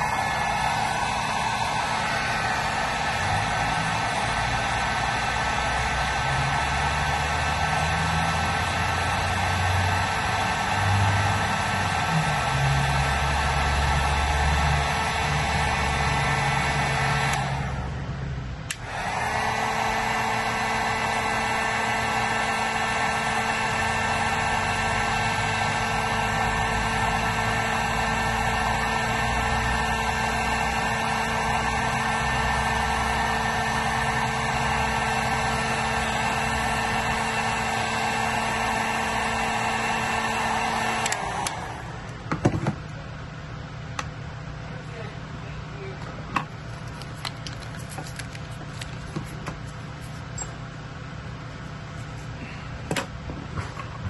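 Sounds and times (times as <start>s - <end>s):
heat gun fan whine: 0.0s - 54.0s.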